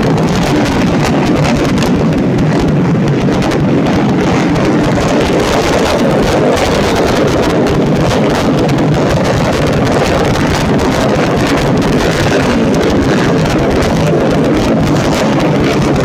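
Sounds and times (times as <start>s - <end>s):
motorcycle engines roaring: 0.0s - 16.0s.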